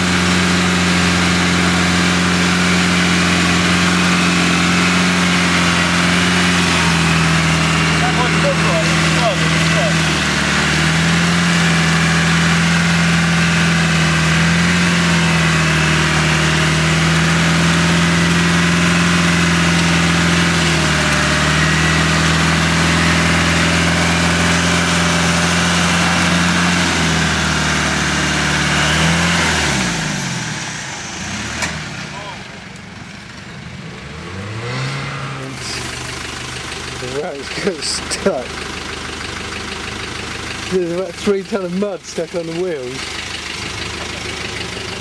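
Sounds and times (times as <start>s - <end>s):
engine pulling under load: 0.0s - 45.0s.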